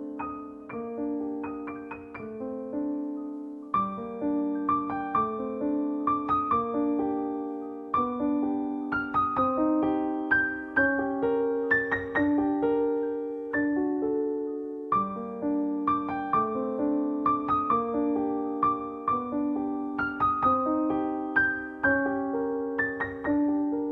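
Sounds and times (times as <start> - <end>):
gentle piano music: 0.0 - 23.9.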